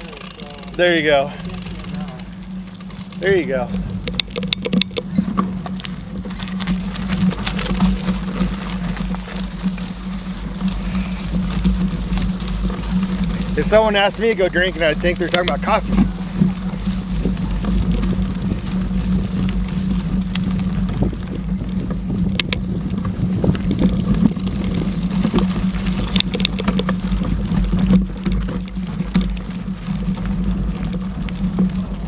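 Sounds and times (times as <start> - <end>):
bike rattling clicks: 0.0 - 32.0
bike tyre hum: 0.0 - 32.0
wind rumble on microphone: 0.0 - 32.0.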